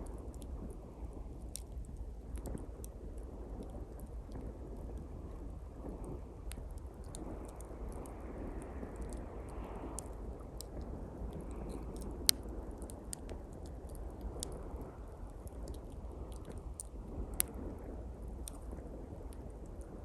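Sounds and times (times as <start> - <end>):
campfire crackling: 0.0 - 20.0
fire popping: 0.0 - 20.0.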